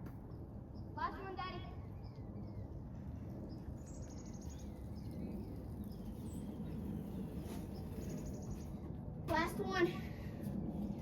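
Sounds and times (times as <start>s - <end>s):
steady low rumble: 1.8s - 11.0s.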